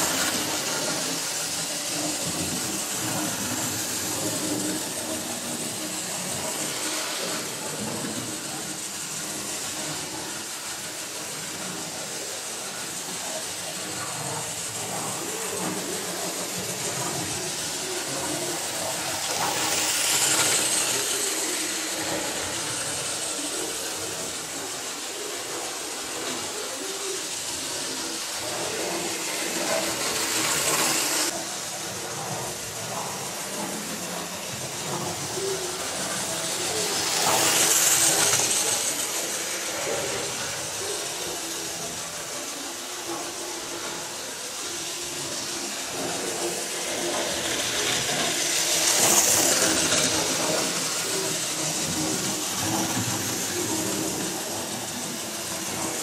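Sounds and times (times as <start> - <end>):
model train motors whirring: 0.0 - 56.0.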